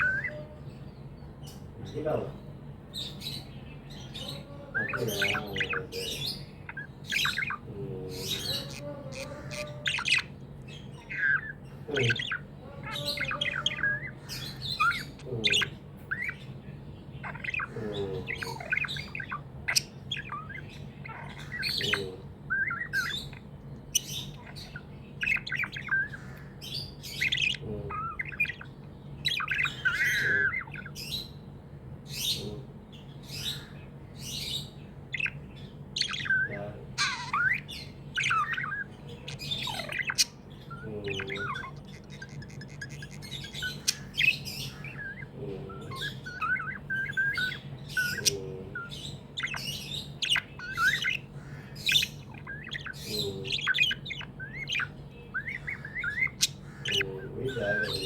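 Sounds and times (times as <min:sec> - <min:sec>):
budgerigars chirping: 0:00.0 - 0:58.0
steady low hum: 0:00.0 - 0:58.0.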